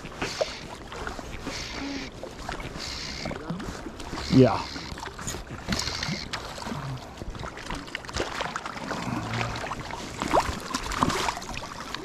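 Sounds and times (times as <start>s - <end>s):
fish splashing in shallow water: 0.0s - 12.0s.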